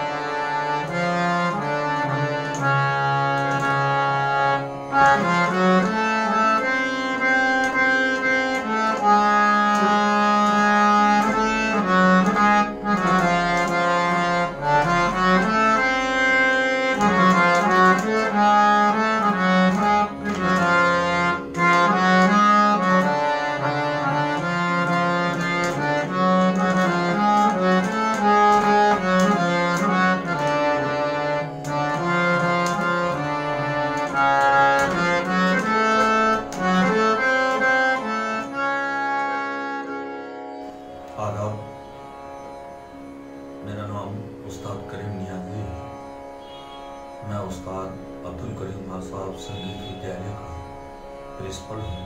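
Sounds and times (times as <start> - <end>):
harmonium playing slow melody: 0.0 - 52.0.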